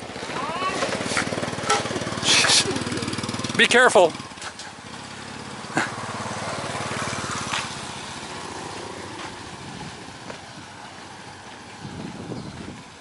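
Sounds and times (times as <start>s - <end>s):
motorbike engine passing: 0.0s - 13.0s.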